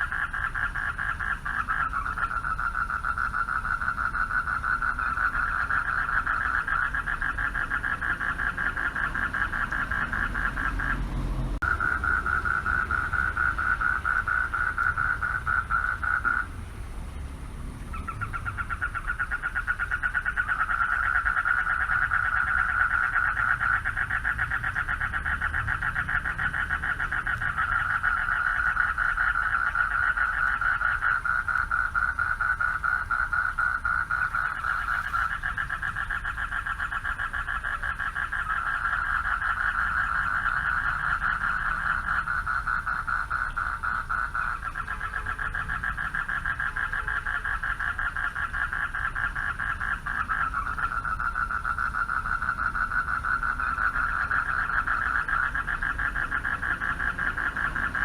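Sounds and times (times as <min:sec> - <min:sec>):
frogs chorus of pulsed trills: 0:00.0 - 0:11.0, 0:11.6 - 0:16.6, 0:17.9 - 0:58.0.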